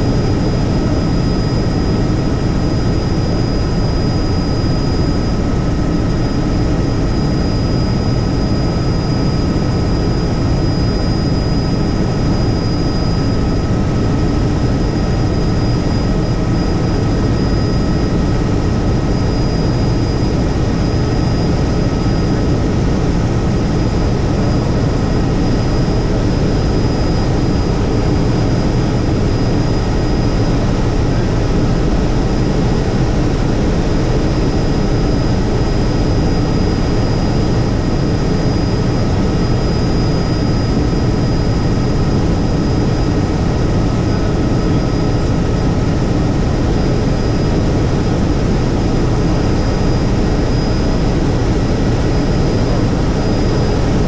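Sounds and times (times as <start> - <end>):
helicopter rotor and engine: 0.0 - 54.0
thin steady whines: 0.0 - 54.0.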